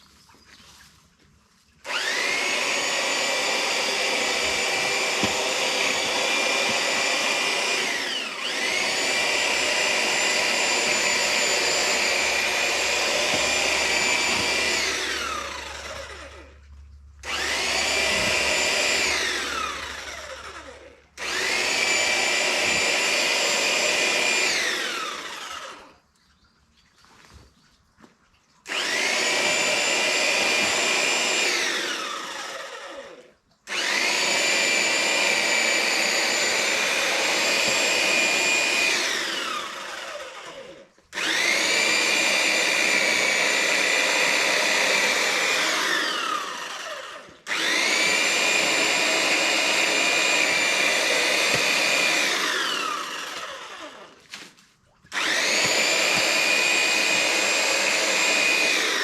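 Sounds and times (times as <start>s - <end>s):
electric power tool whining: 1.8s - 26.0s, 28.7s - 54.2s, 55.1s - 59.0s.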